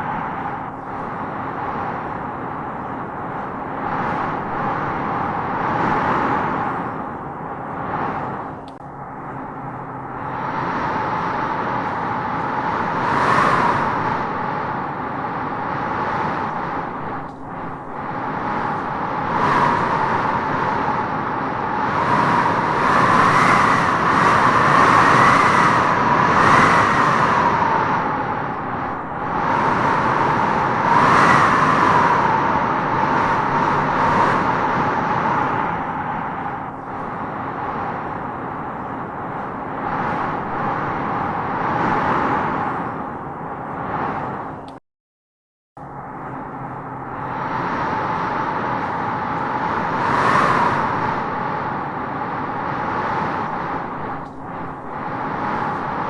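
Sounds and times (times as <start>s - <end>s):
whistling wind tone: 0.0s - 44.8s, 45.8s - 56.0s
wind blowing in gusts: 0.0s - 44.8s, 45.8s - 56.0s.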